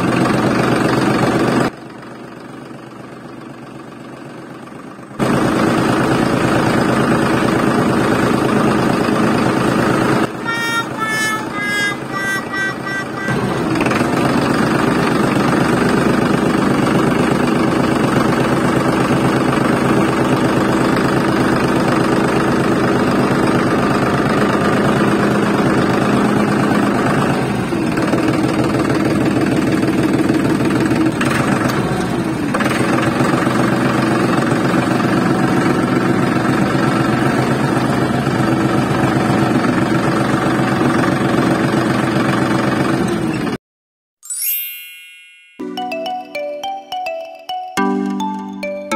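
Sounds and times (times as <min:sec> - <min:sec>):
tractor engine running: 0:00.0 - 0:43.6.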